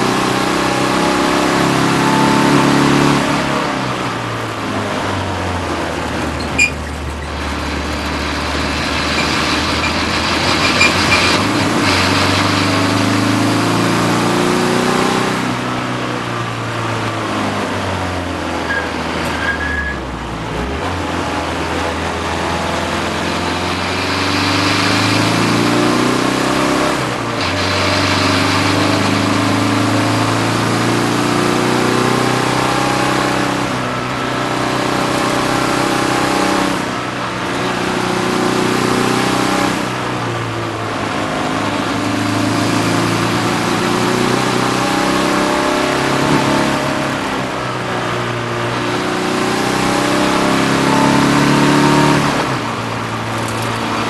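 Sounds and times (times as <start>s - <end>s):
race car engine pulling hard: 0.0s - 54.0s
wind and road noise: 0.0s - 54.0s.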